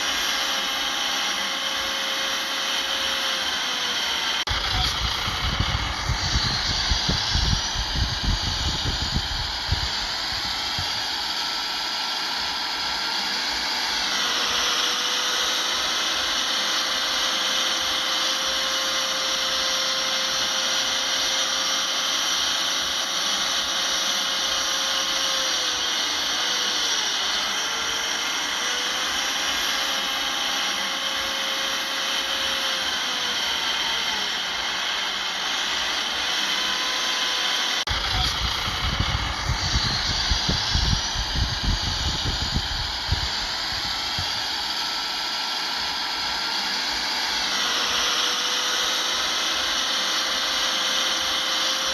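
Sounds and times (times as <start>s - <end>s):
steady mechanical whine: 0.0s - 51.9s.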